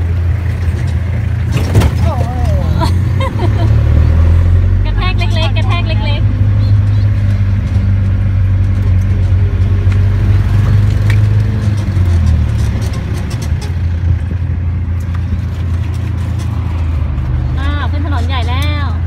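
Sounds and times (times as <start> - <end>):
truck engine running: 0.0 - 19.0
wind and road rush: 0.0 - 19.0.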